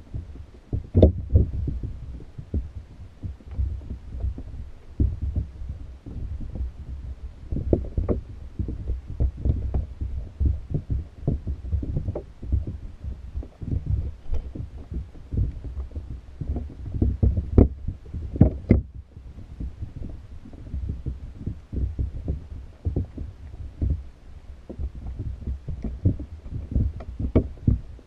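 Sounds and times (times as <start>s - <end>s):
muffled underwater thuds and knocks: 0.0s - 28.0s.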